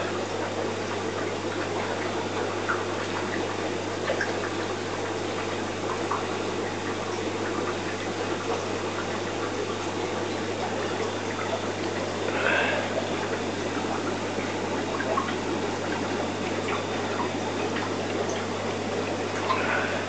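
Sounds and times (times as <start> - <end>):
filter pump humming: 0.0 - 20.0
water rushing and trickling: 0.0 - 20.0.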